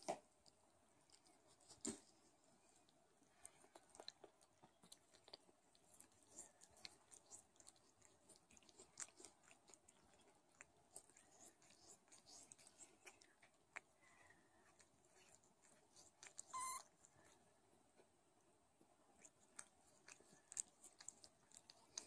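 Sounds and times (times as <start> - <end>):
cat licking kittens wet clicks: 0.0 - 17.4, 19.2 - 22.0.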